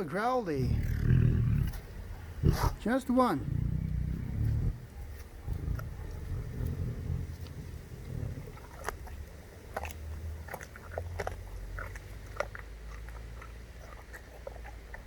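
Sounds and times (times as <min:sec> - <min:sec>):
tiger chewing food: 0:00.0 - 0:15.0.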